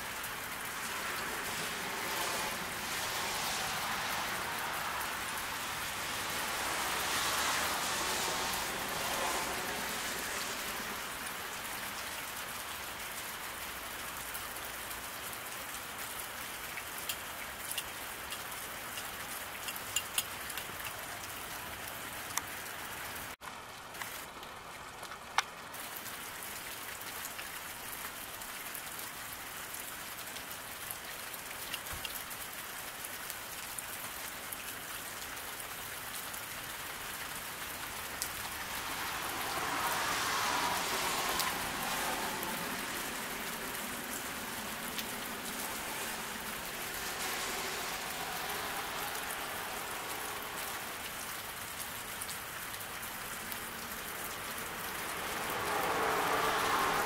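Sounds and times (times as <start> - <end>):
car tyres hissing on wet road: 0.0 - 19.8, 25.8 - 57.0
rain falling on a road: 0.0 - 57.0.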